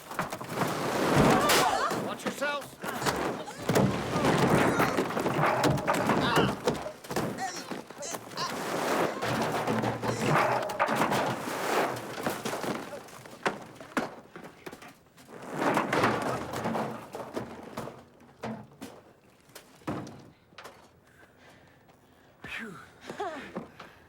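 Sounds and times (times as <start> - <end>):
debris thuds and knocks: 0.0 - 21.0.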